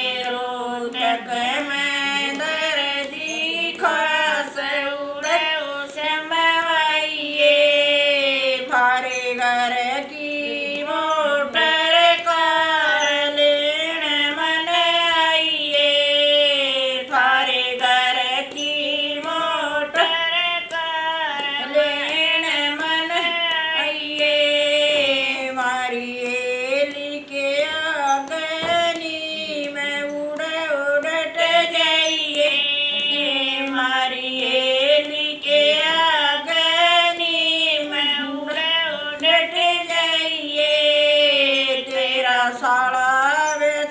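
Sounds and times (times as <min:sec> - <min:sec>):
two women singing: 0:00.0 - 0:43.9.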